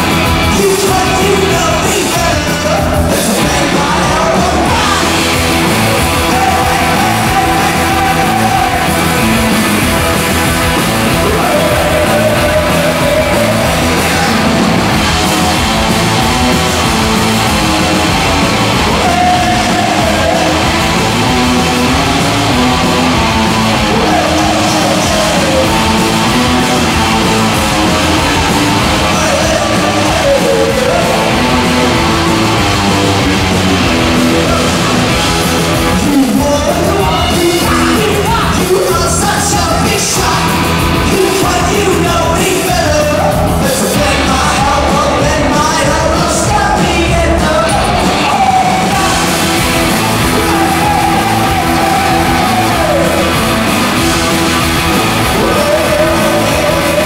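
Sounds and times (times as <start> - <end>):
bass guitar: 0.0 - 57.0
distorted electric guitars: 0.0 - 57.0
drums: 0.0 - 57.0
person singing: 0.4 - 57.0.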